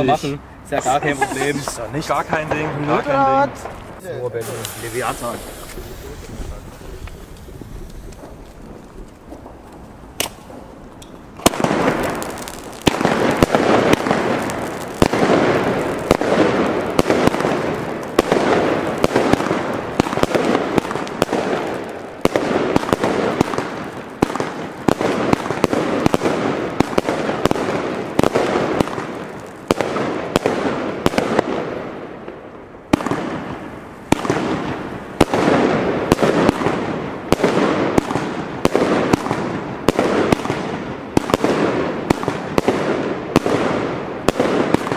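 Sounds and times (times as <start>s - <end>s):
firework crackle: 0.0s - 44.9s
firework shots and bursts: 0.0s - 44.9s.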